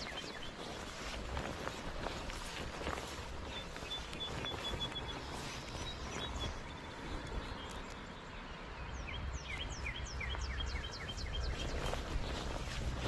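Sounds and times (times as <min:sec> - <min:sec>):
river flowing: 0:00.0 - 0:13.0
songbird singing: 0:00.0 - 0:13.0.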